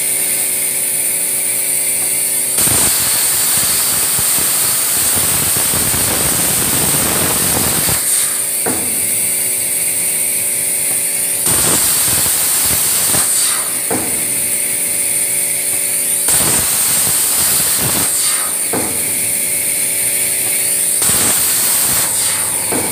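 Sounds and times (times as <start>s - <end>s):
plasma torch hissing with high whine: 0.0s - 22.9s.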